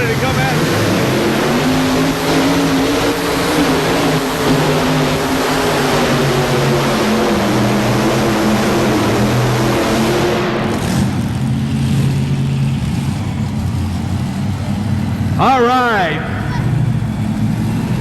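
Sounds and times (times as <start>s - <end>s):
tractor engines at full power: 0.0s - 18.0s.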